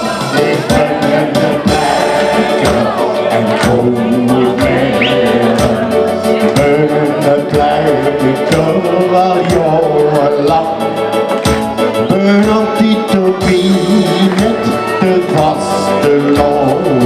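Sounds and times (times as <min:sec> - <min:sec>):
people singing: 0:00.0 - 0:11.4, 0:12.0 - 0:17.0
drums beating: 0:00.0 - 0:17.0
live band playing: 0:00.0 - 0:17.0.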